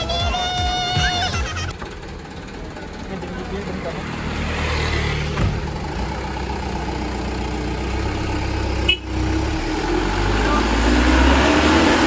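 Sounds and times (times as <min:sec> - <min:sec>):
diesel truck engine pulling away: 0:00.0 - 0:12.0.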